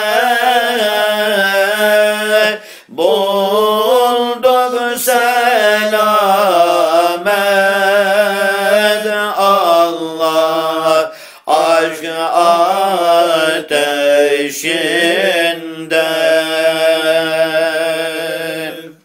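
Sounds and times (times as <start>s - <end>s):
devotional chanting: 0.0s - 19.0s.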